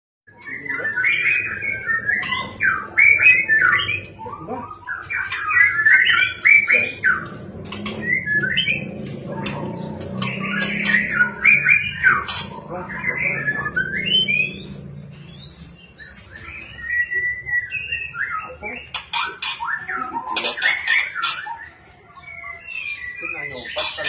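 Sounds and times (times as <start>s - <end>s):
bird chattering chirps and squawks: 0.3s - 16.8s, 17.6s - 24.0s.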